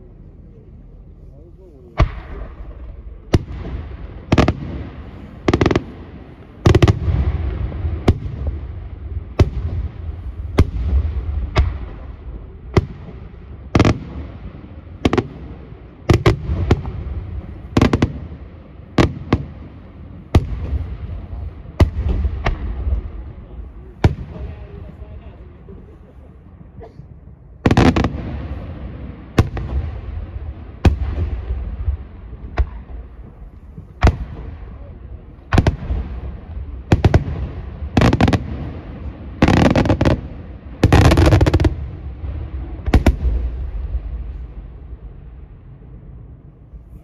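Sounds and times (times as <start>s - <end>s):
continuous low rumble: 0.0s - 47.0s.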